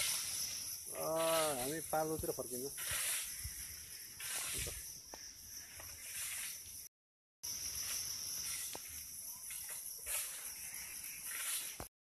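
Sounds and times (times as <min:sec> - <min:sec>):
insects hissing: 0:00.0 - 0:11.9.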